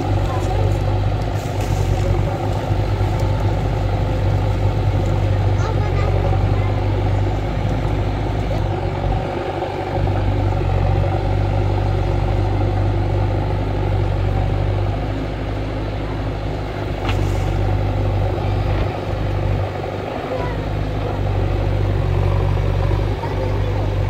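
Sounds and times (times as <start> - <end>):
diesel engine droning under load: 0.0 - 24.0.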